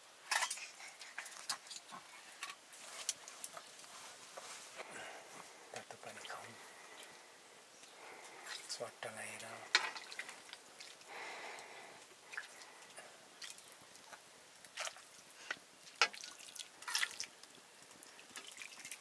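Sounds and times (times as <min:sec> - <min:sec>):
soft rush of noise: 0:00.1 - 0:15.9.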